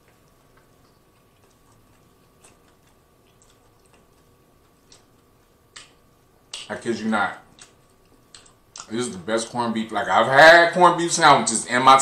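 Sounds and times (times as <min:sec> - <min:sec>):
faint chewing with mouth clicks: 0:00.0 - 0:09.6.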